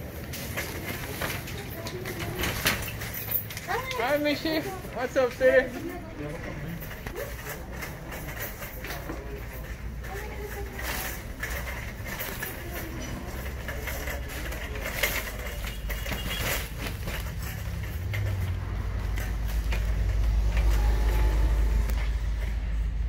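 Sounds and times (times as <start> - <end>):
shopping carts rattling: 0.0 - 23.0.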